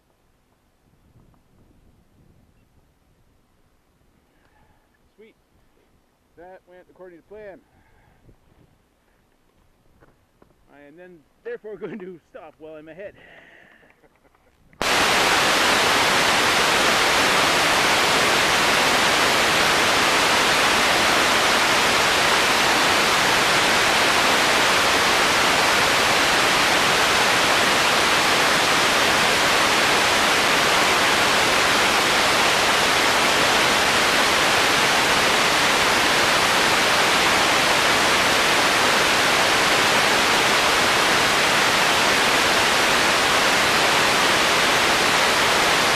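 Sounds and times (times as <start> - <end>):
static hiss: 0.0 - 45.9.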